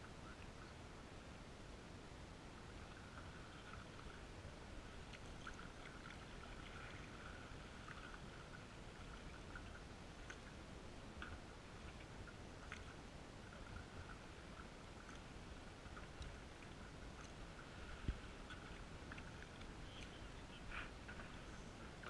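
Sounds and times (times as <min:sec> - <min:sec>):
paddle drips and splashes: 0:02.6 - 0:22.0.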